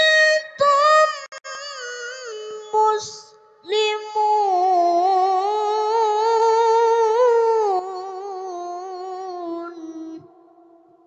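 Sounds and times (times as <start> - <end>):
boy reciting in melodic sung style: 0.0 - 11.0.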